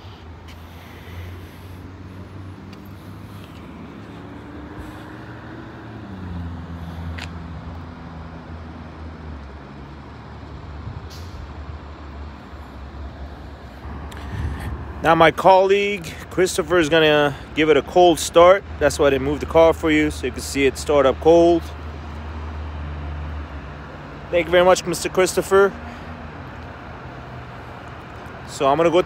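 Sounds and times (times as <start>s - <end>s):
heavy vehicle engine passing: 0.0s - 29.0s
traffic engine rumble: 0.0s - 29.0s.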